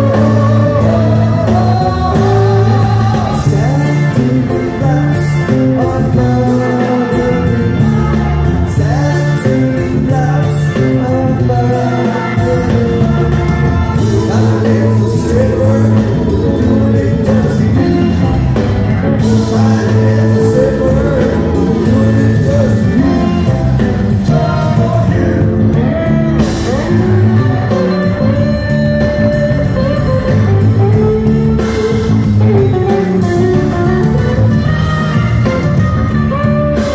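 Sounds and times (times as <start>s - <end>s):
live band playing: 0.0s - 36.9s
person singing: 0.0s - 36.9s.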